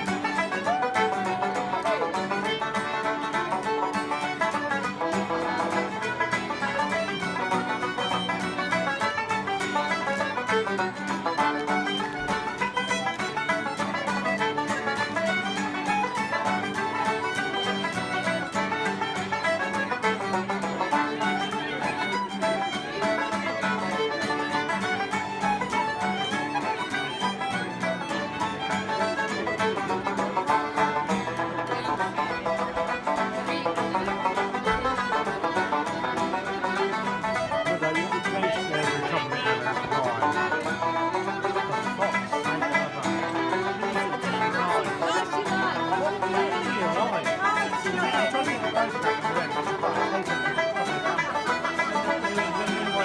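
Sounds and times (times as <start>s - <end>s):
folk band playing dance tune: 0.0s - 53.0s
strummed string accompaniment: 0.0s - 53.0s.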